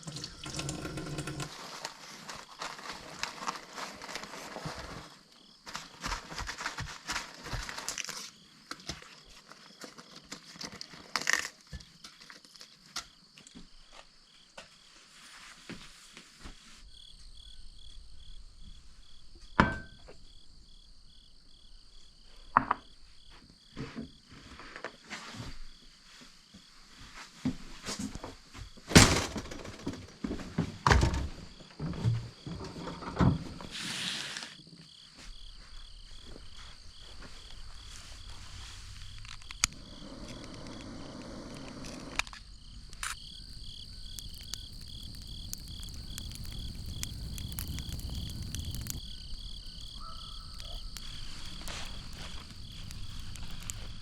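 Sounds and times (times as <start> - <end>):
insects chirping: 0.0 - 15.2, 16.5 - 26.8, 31.2 - 54.0.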